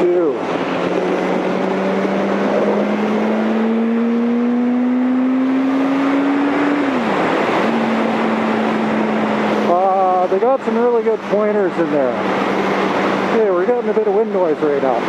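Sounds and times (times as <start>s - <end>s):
wind rushing over microphone: 0.0s - 15.0s
motorcycle engine accelerating: 0.2s - 13.4s.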